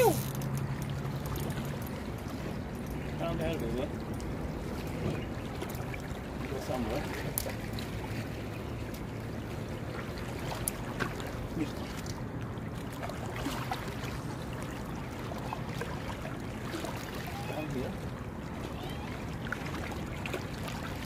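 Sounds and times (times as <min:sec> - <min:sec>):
waves lapping against rocks: 0:00.0 - 0:21.0.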